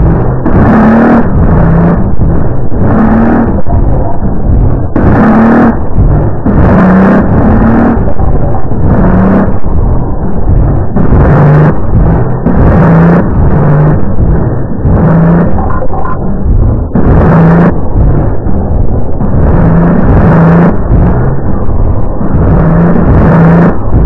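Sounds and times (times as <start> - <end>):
bursts of harsh noise: 0.0 - 24.0
distorted low electronic tones: 0.0 - 24.0
rough noisy rumble: 0.0 - 24.0.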